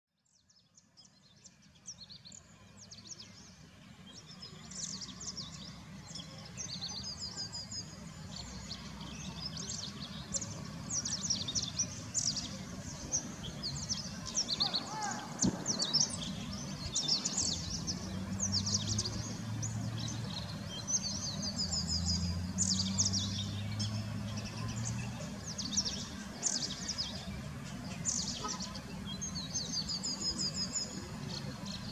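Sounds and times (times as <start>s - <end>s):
birds chirping: 0.3s - 31.9s.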